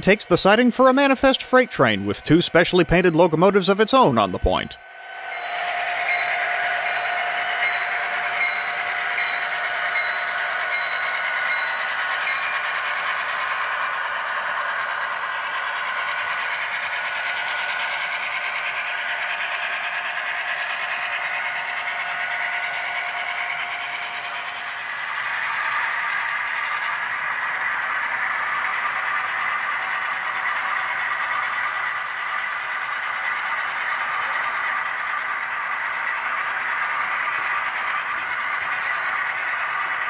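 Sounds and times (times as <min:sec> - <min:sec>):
model train running on track: 0:00.0 - 0:40.0.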